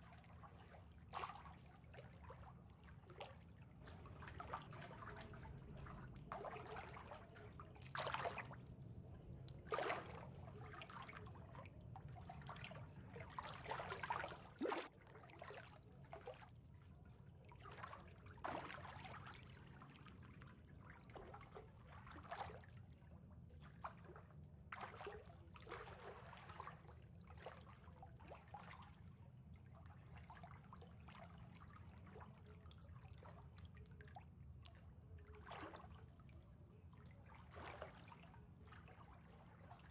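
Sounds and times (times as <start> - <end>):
small water splashes: 0.0 - 23.0, 23.6 - 39.9
pool water trickling and lapping: 0.0 - 39.9.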